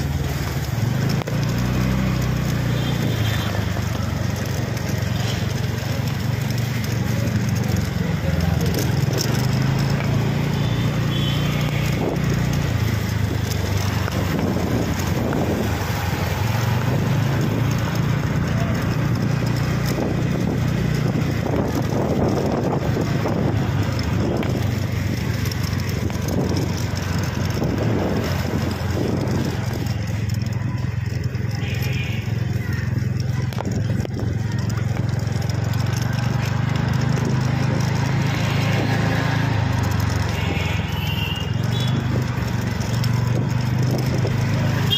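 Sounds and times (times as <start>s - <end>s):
road noise: 0.0s - 44.9s
vehicle engine running: 0.0s - 44.9s.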